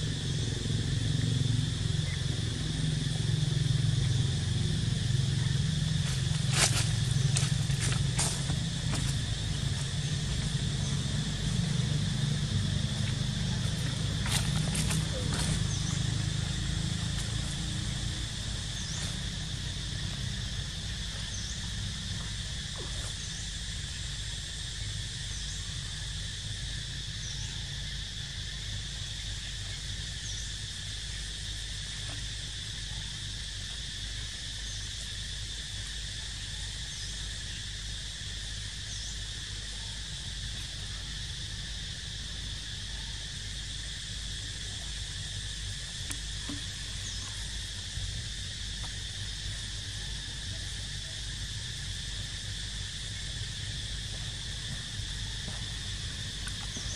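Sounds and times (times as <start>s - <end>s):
high insect drone: 0.0s - 56.9s
low outdoor rumble: 0.0s - 56.9s.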